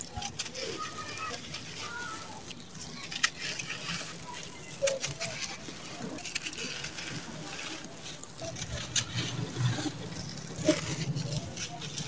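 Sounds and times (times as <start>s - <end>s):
crisp cracks: 0.0s - 12.0s
gritty crunching of blocks: 0.0s - 12.0s
trickle of falling grains: 0.0s - 12.0s.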